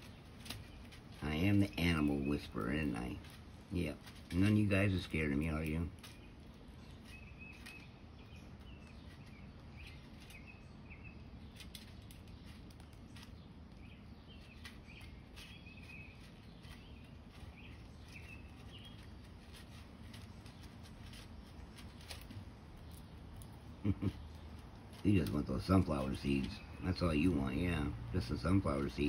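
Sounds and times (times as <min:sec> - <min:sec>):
small birds chirping: 0:00.0 - 0:29.0
squirrel crunching seeds: 0:00.0 - 0:29.0.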